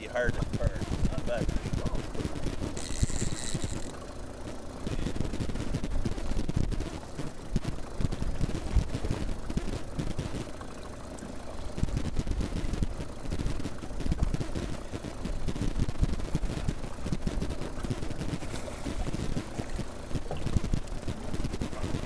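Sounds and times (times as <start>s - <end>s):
choppy water: 0.0s - 22.0s.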